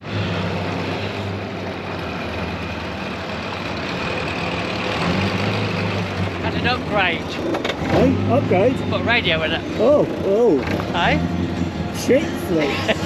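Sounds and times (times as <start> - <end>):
car engine running: 0.7 - 13.0.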